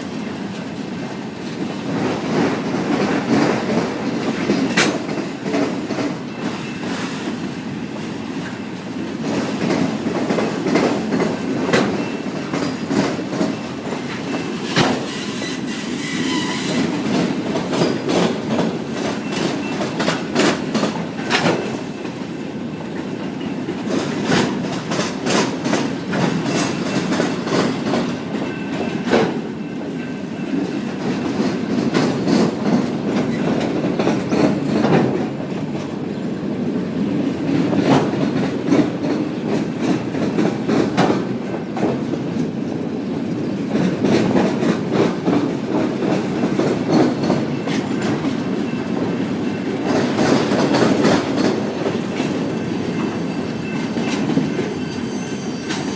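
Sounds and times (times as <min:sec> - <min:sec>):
rumble of rolling train cars: 0:00.0 - 0:55.9
train wheels clicking over rail joints: 0:00.0 - 0:55.9.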